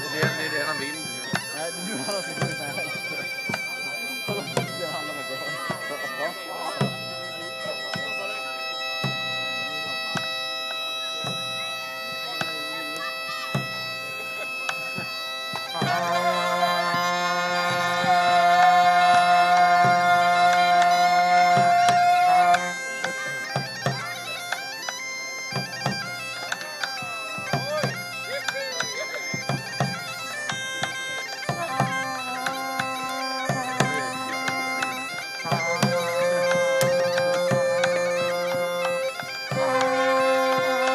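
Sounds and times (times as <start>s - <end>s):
bagpipes playing: 0.0s - 40.9s.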